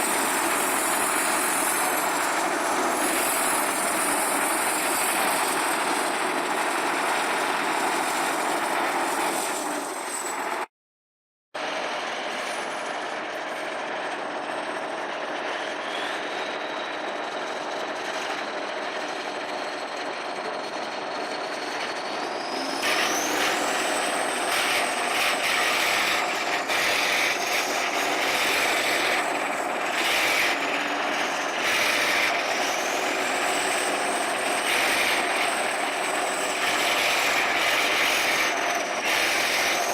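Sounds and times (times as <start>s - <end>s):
heavy vehicle engine running: 0.0s - 10.7s, 11.6s - 39.9s.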